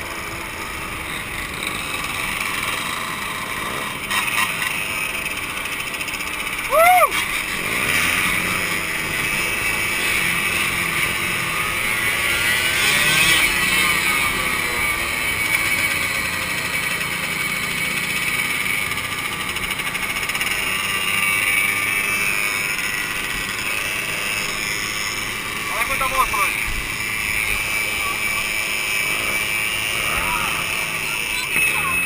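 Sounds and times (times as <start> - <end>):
two-stroke motorcycle engines running: 0.0 - 32.0.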